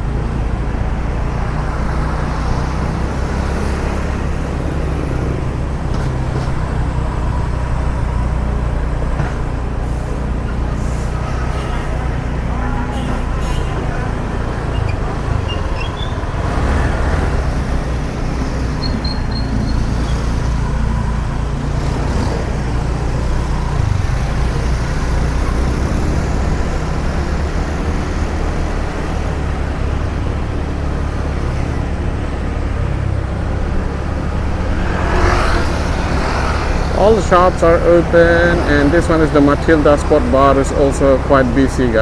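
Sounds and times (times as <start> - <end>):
car engine and road noise: 0.0 - 42.0
surrounding traffic: 0.0 - 42.0.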